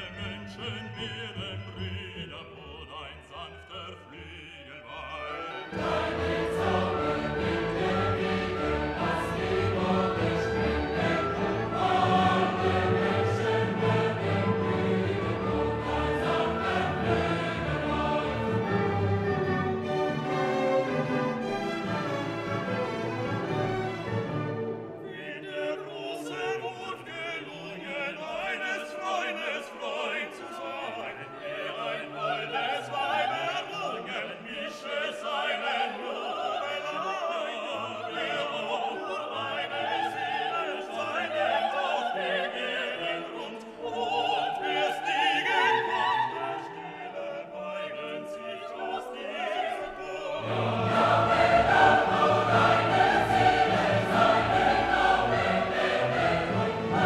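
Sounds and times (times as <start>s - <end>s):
choral singing with orchestra: 0.0s - 57.0s.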